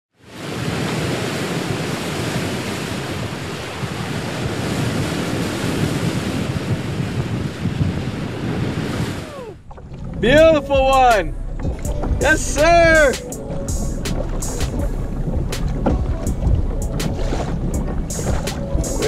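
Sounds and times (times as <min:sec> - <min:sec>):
ocean waves breaking: 0:00.1 - 0:19.0.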